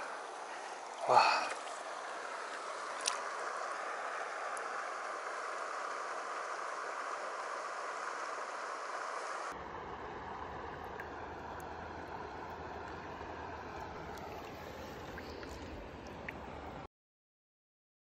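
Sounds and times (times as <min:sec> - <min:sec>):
stream water rushing: 0:00.0 - 0:16.9.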